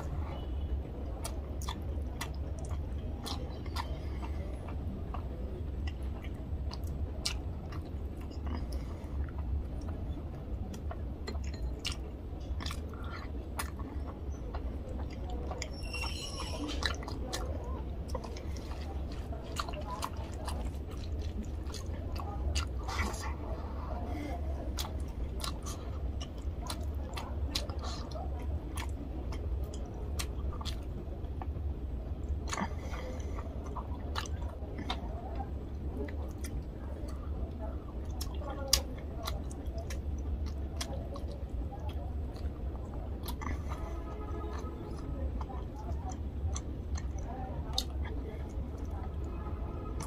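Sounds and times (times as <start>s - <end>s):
chewing and lip-smacking: 0.0s - 50.0s
low steady hum: 0.0s - 50.0s.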